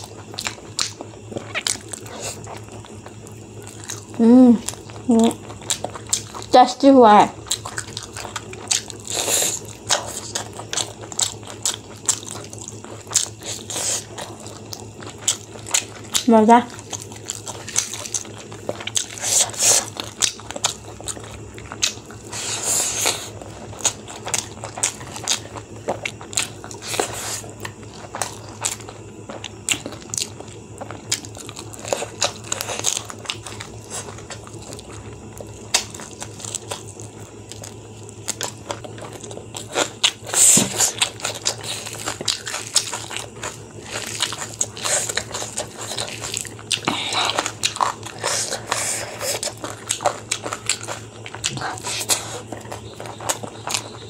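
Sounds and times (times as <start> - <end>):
person chewing: 0.0 - 6.6, 7.3 - 54.0
steady low hum: 0.0 - 54.0.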